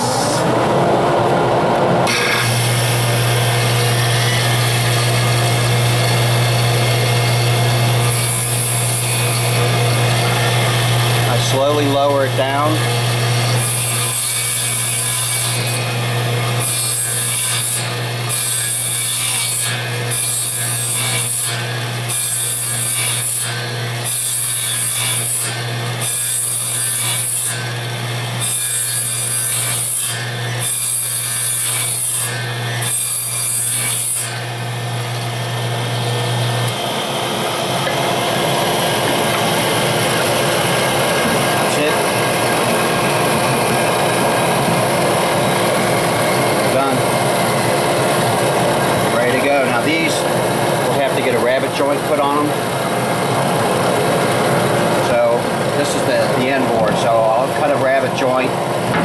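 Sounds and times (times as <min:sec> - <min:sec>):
saw cutting wood: 0:02.0 - 0:59.0
saw motor running: 0:02.0 - 0:59.0.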